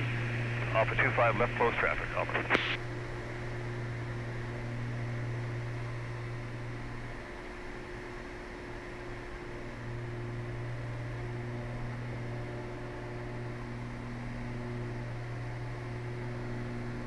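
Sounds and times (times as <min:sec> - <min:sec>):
aircraft engines droning: 0:00.0 - 0:17.0.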